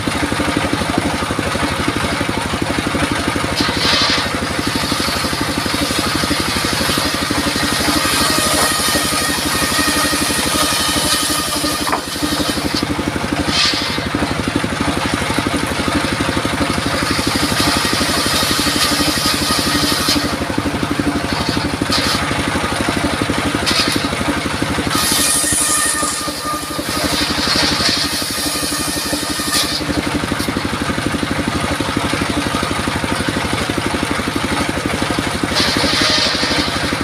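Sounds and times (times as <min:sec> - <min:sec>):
circular saw engine running: 0:00.0 - 0:37.0.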